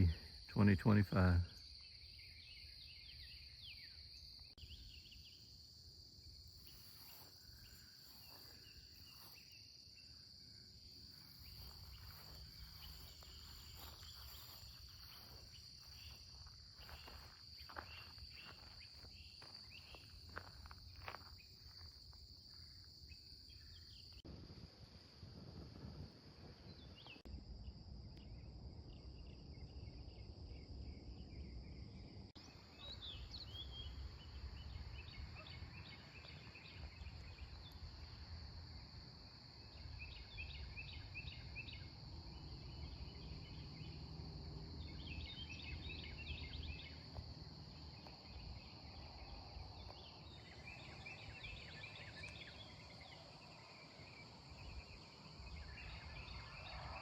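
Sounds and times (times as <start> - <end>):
small birds chirping: 0.0 - 24.2, 32.4 - 57.0
high insect drone: 0.0 - 57.0.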